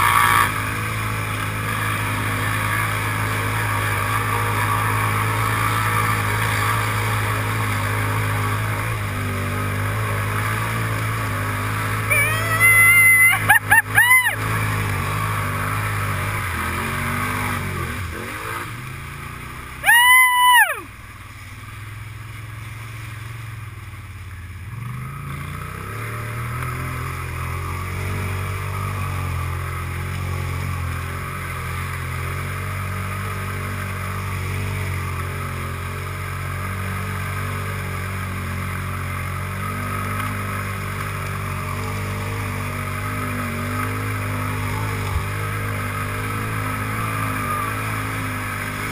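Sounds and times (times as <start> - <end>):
quad bike engine running: 0.0 - 48.9.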